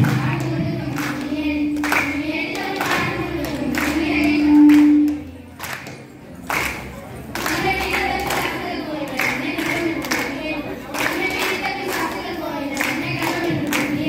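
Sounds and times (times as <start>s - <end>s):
girls singing together: 0.0s - 14.0s
hand claps: 0.0s - 14.0s.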